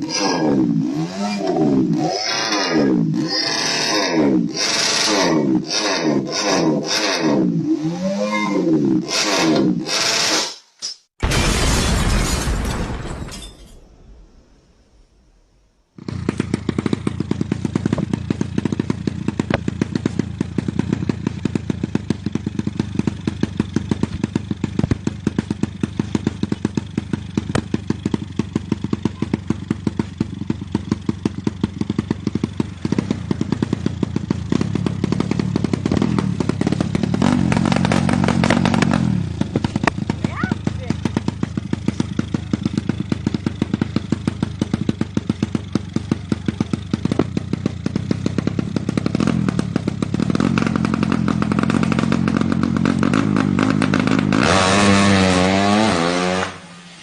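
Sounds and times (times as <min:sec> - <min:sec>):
motorcycle engine running: 0:00.0 - 0:08.0, 0:16.0 - 0:56.7.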